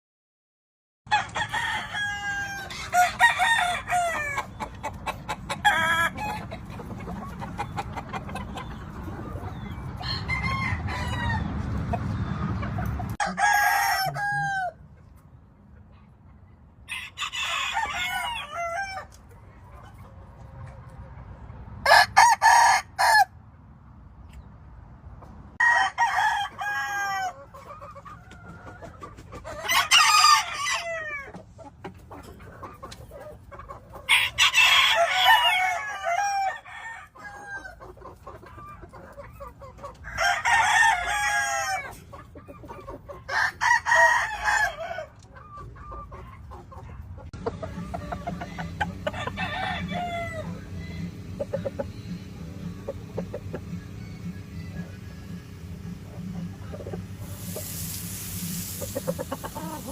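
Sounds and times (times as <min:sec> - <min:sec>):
roosters crowing: 0:01.1 - 0:15.0, 0:16.8 - 0:20.8, 0:21.8 - 0:23.4, 0:25.5 - 0:59.9
chickens clucking: 0:01.1 - 0:59.9.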